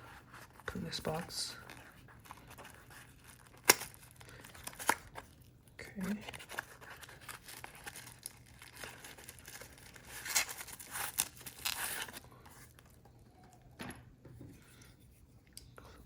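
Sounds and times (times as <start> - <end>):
packaging crinkling and rustling: 0.2 - 13.5.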